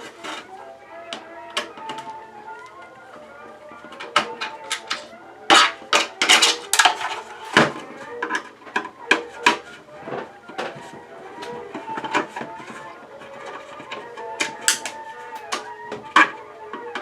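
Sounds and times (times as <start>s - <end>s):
hard plastic clicks and cracks: 0.0s - 3.2s, 3.8s - 17.0s.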